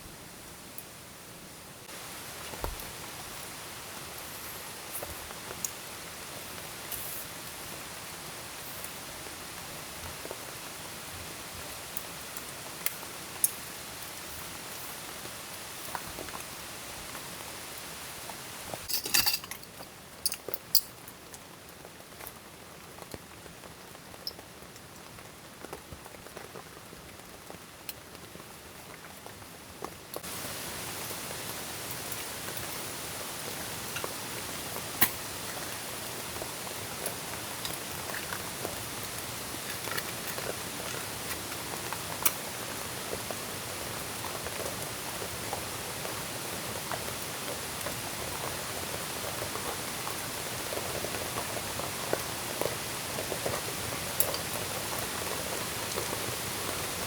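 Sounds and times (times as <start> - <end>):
sharp raindrops striking nearby: 0.0 - 57.0
steady rain falling: 0.0 - 57.0.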